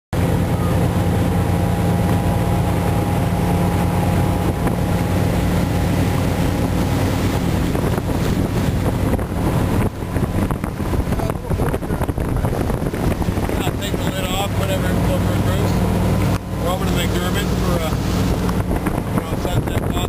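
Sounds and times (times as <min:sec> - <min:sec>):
boat engine drone: 0:00.1 - 0:20.0
water against hull: 0:00.2 - 0:20.0
wind on microphone: 0:00.2 - 0:20.0.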